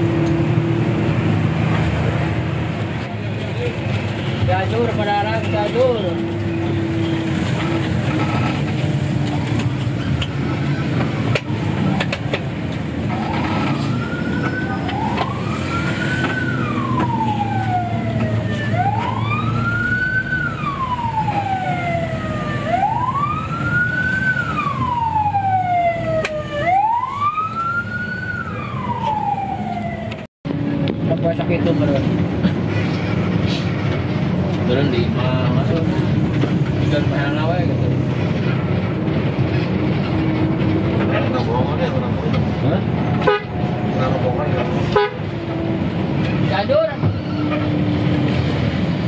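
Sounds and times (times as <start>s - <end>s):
emergency vehicle siren wailing: 0.0s - 32.2s, 33.8s - 49.0s
bus engine and road noise: 0.0s - 49.0s.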